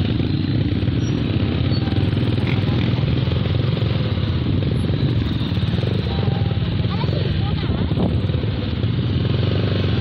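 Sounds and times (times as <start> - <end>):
motorcycle engine chugging: 0.0 - 10.0
surrounding traffic noise: 0.0 - 10.0.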